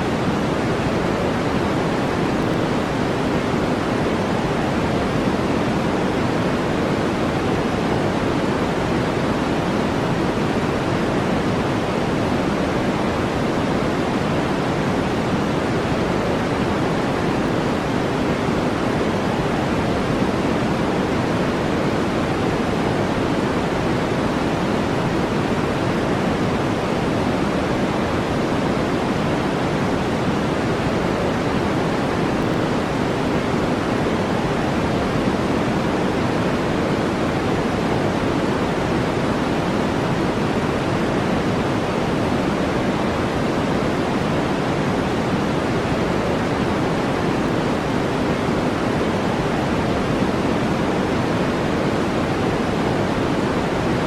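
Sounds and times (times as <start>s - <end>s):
steady synthetic noise: 0.0s - 54.0s.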